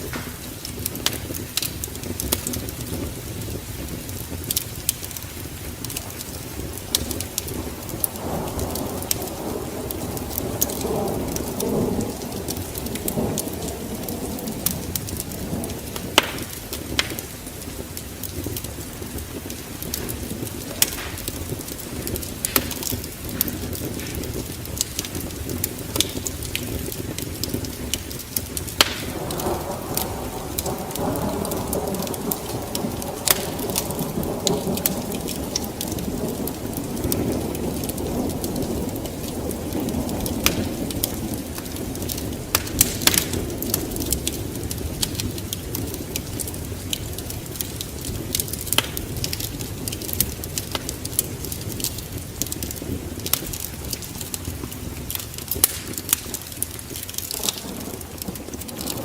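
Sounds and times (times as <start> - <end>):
steady rain: 0.0 - 59.0
wood fire crackling: 0.0 - 59.0
thunder rolling: 5.1 - 59.0.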